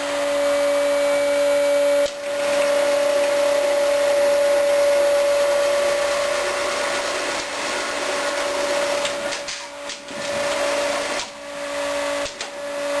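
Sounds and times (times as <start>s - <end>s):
vacuum generator humming and hissing: 0.0s - 13.0s.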